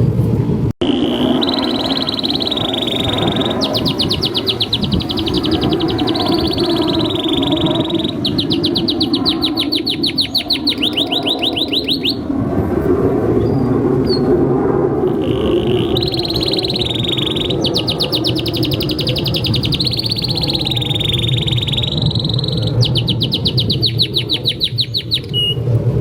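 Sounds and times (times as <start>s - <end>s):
canary singing trills: 0.8s - 12.3s, 15.1s - 25.6s.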